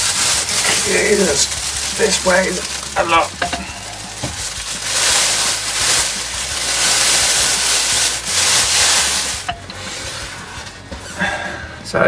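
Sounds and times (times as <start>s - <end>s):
plastic wrapping crinkling: 0.0s - 11.2s.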